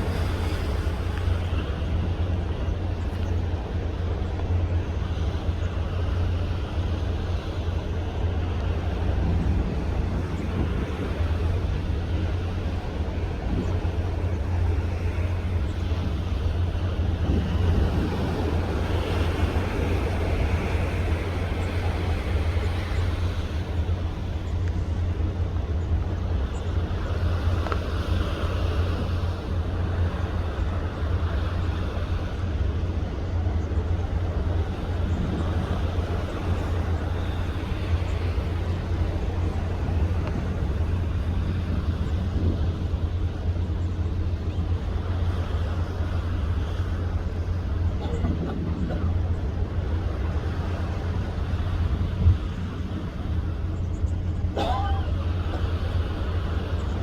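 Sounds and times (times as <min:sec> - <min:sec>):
sea wash: 0:00.0 - 0:57.0
ship engines droning: 0:00.0 - 0:57.0
wind on microphone: 0:00.0 - 0:57.0.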